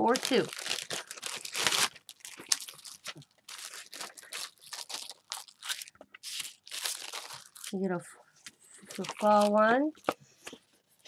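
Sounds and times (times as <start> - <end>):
plastic sheets crinkling: 0.0 - 11.0.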